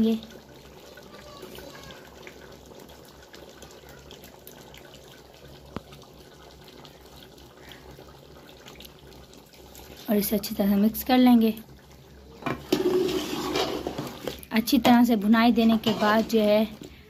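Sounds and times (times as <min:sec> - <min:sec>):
curry bubbling and sizzling in pot: 0:00.0 - 0:17.0.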